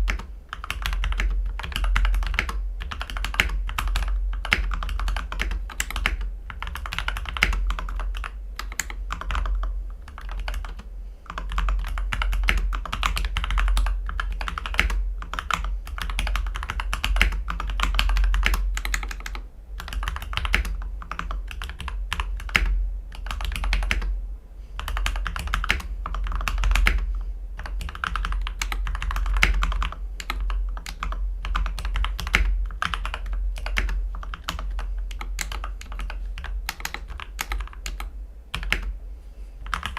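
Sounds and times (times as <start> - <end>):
mechanical keyboard typing: 0.0 - 24.1, 24.8 - 38.9, 39.6 - 39.9
steady low hum: 0.0 - 39.9.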